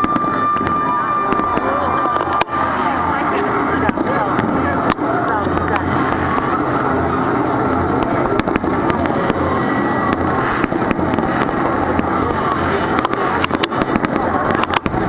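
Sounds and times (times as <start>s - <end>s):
dense continuous din: 0.0s - 15.0s
fireworks bangs and crackles: 0.0s - 15.0s.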